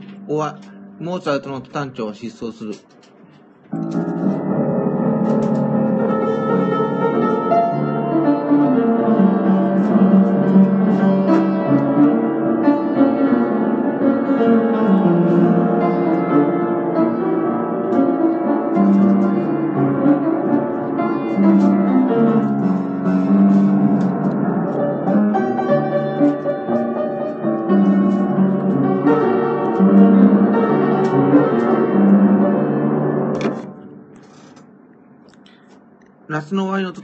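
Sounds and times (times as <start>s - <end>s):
piano music: 0.0s - 2.5s, 3.5s - 34.8s.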